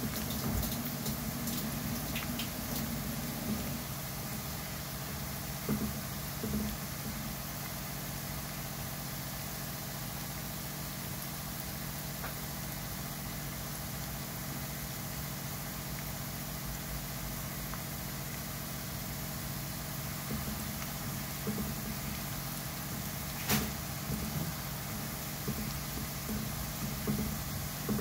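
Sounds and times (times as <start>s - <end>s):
garlic sizzling in oil: 0.0s - 28.0s
low steady hum: 0.0s - 28.0s.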